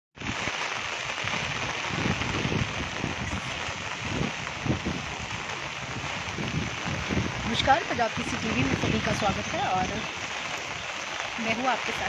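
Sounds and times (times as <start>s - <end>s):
steady rain hissing: 0.2s - 12.0s
wind buffeting microphone: 0.2s - 12.0s.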